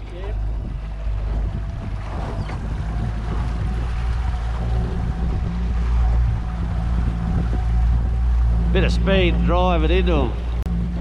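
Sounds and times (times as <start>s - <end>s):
outboard motor running: 0.0s - 11.0s
water rushing: 0.0s - 11.0s
wind: 0.0s - 11.0s.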